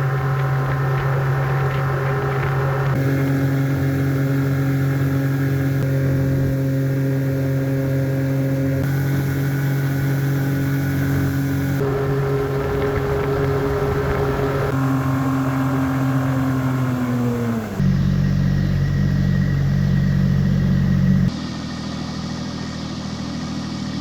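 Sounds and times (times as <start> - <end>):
boat motor drone: 0.0 - 24.0.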